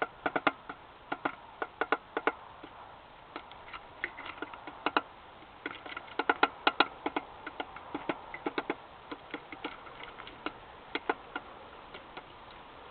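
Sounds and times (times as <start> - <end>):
woodpecker tapping: 0.0 - 12.9.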